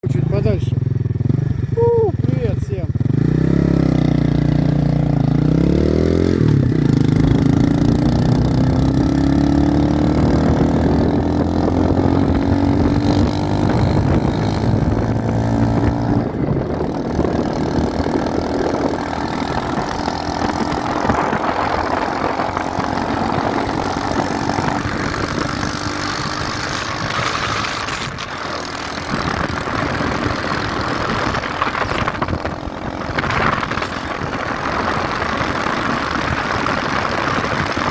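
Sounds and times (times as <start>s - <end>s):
motorcycle engine revving: 0.0s - 37.9s
wind rushing over microphone: 1.6s - 37.9s.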